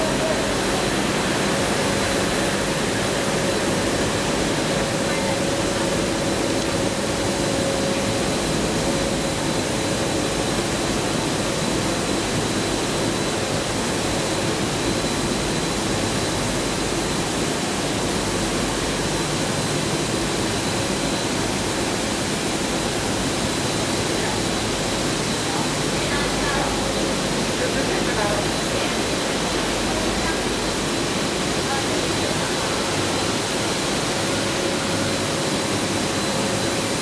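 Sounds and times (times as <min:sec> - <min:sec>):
factory machinery hiss and hum: 0:00.0 - 0:37.0.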